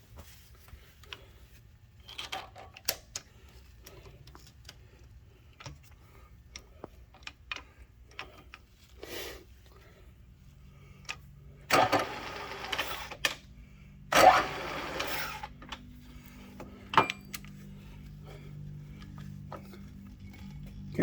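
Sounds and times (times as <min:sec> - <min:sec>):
steady low hum: 0:03.2 - 0:21.0.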